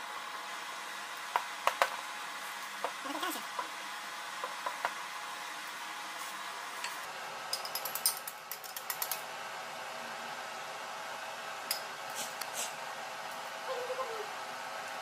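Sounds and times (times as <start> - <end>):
cooling fan whirring: 0.0 - 15.0.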